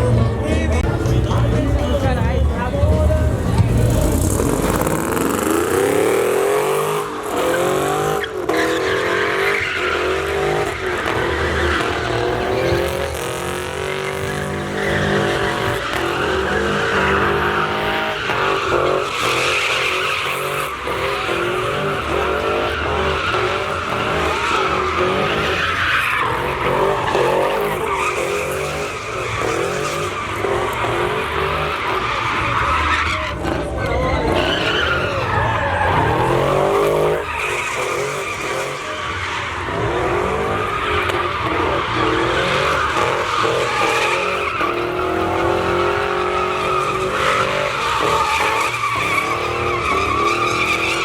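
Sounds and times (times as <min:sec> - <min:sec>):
tires squealing on pavement: 0:00.0 - 0:51.0
truck engine revving: 0:00.0 - 0:51.0.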